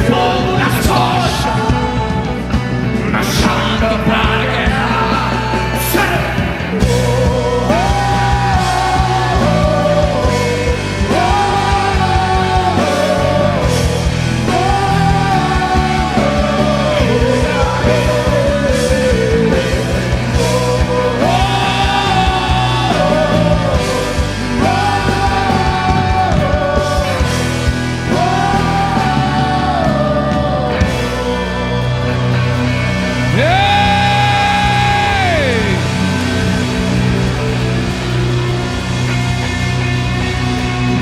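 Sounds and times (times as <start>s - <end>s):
live rock band playing: 0.0s - 41.0s.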